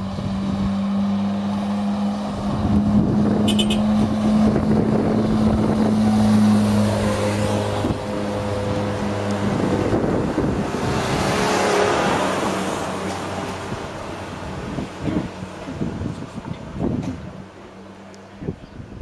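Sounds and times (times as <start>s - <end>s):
car engine labouring uphill: 0.0s - 19.0s.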